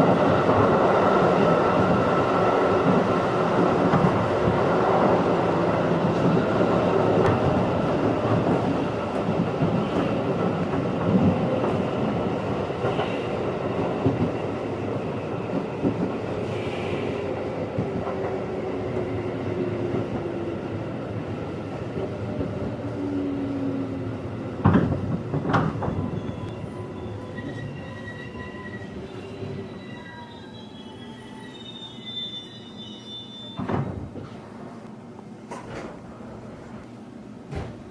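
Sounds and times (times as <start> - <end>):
train rumble on rails: 0.0 - 37.9.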